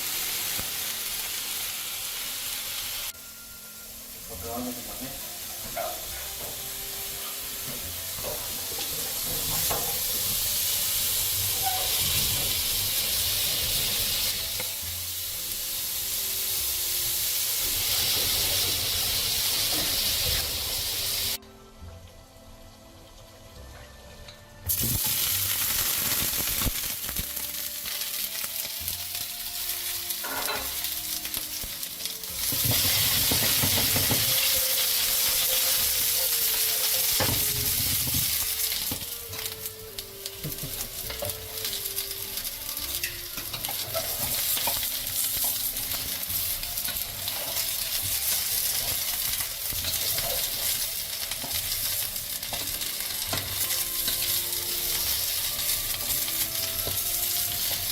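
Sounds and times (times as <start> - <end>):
food sizzling and frying: 0.0 - 21.4, 22.4 - 57.9.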